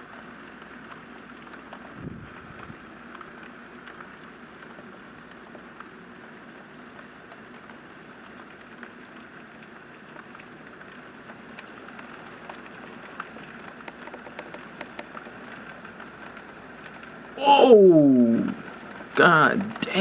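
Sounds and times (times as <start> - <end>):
raindrops pattering: 0.0 - 17.4.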